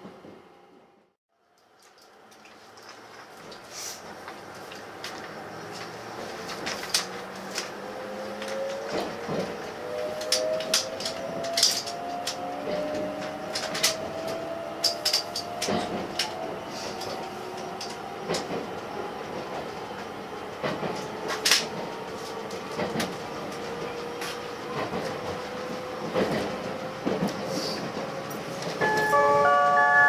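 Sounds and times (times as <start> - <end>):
wheels clacking over rail joints: 3.0 - 29.0.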